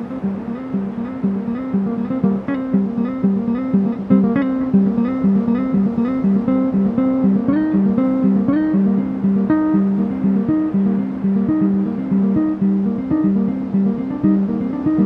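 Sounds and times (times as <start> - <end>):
plucked guitar melody: 0.0 - 15.0.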